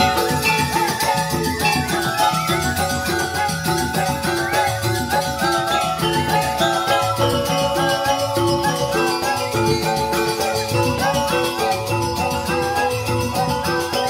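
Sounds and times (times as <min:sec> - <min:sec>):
bamboo xylophones playing melody: 0:00.0 - 0:14.0
steady drum beat: 0:00.0 - 0:14.0.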